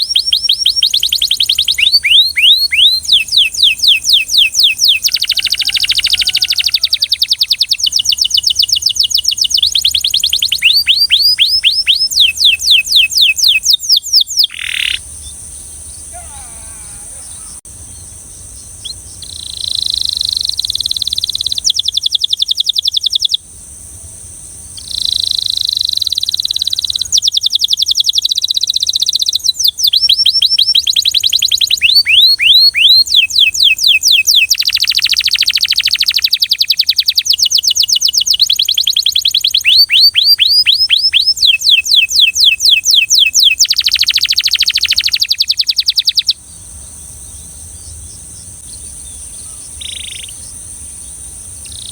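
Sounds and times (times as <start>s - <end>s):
canary singing trills: 0.0s - 23.4s, 24.6s - 51.9s.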